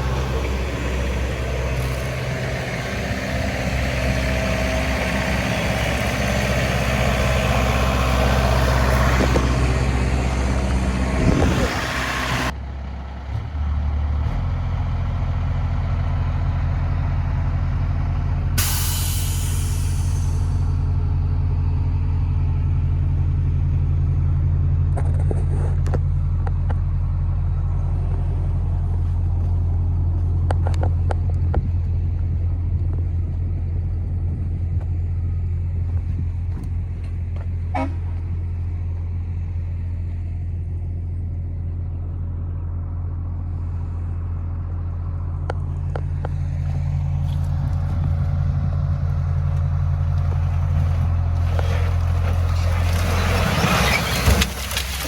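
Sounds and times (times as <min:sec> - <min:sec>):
large engine droning: 0:00.0 - 0:55.0.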